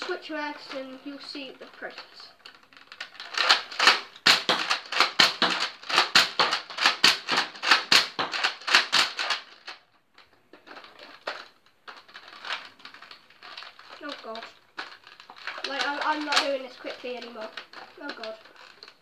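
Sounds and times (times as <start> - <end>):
toy blaster plastic clacks: 0.0 - 19.0.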